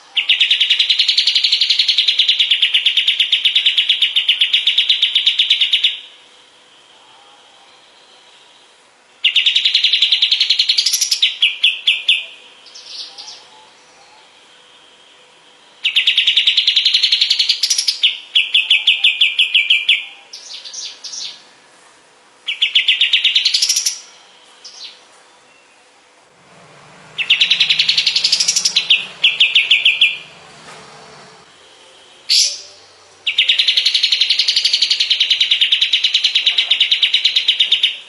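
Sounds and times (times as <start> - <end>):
bird singing rapid notes: 0.0 - 6.2, 7.8 - 21.4, 22.4 - 38.0.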